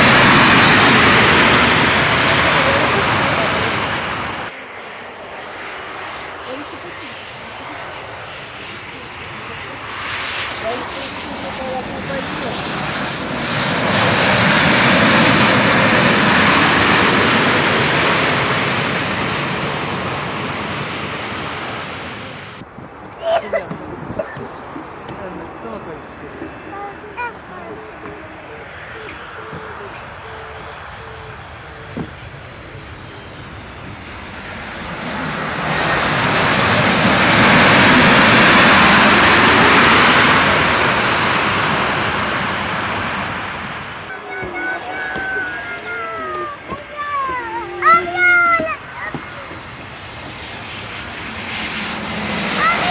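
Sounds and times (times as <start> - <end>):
airliner engine passing: 0.0 - 52.9.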